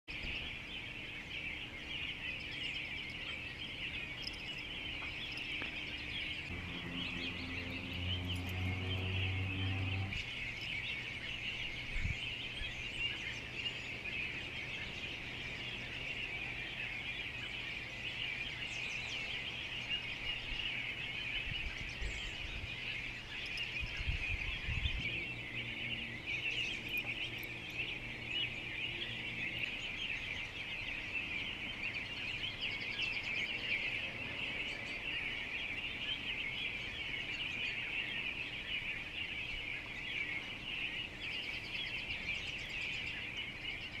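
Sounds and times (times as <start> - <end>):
songbirds chirping in chorus: 0.0 - 44.0.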